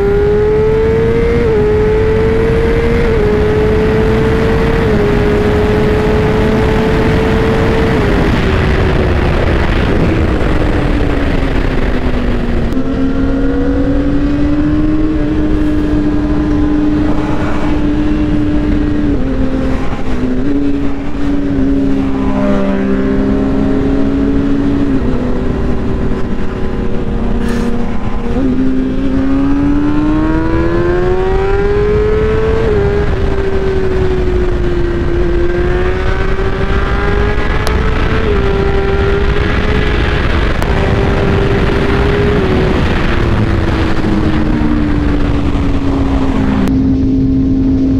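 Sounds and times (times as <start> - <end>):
motorcycle engine at speed: 0.0 - 47.9
wind rush: 0.0 - 47.9.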